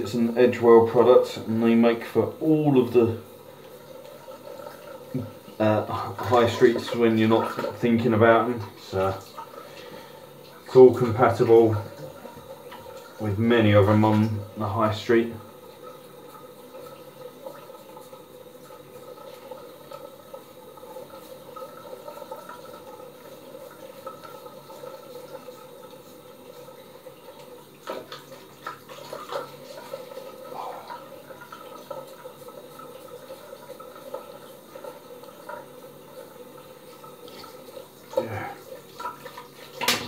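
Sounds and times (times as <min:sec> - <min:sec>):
steady background hum: 0:00.0 - 0:39.8.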